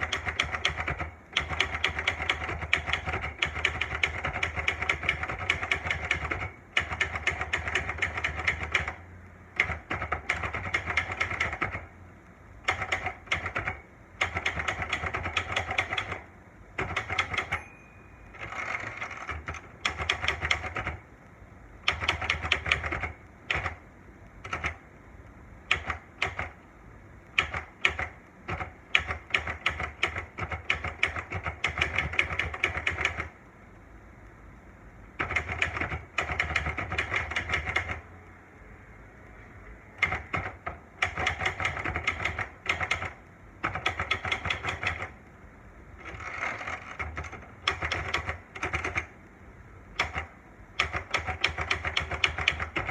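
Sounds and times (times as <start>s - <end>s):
typewriter keystrikes: 0.0s - 11.9s, 12.6s - 21.0s, 21.8s - 23.8s, 24.4s - 24.8s, 25.7s - 26.6s, 27.4s - 33.4s, 35.2s - 38.0s, 40.0s - 45.1s, 46.0s - 49.1s, 50.0s - 52.9s.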